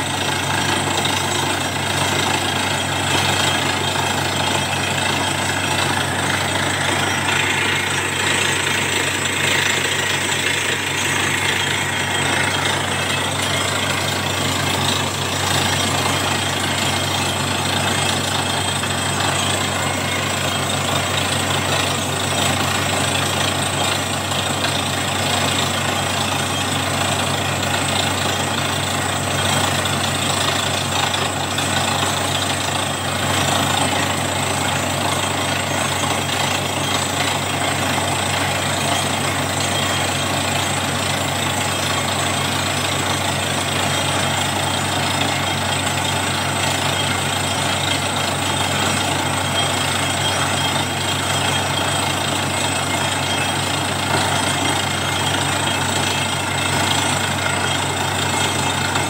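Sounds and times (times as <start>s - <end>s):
drilling rig engine droning: 0.0s - 59.0s.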